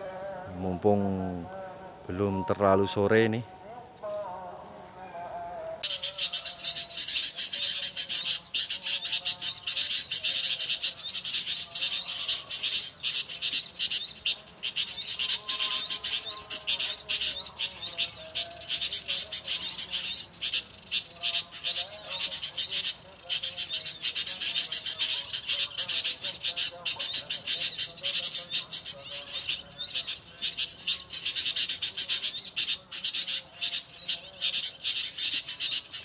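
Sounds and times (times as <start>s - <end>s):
many small birds chattering: 0.0s - 36.0s.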